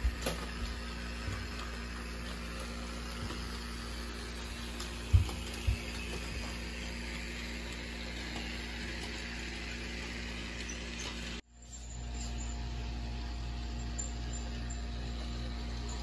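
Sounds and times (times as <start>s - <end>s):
toy train motor whirring: 0.0s - 16.0s.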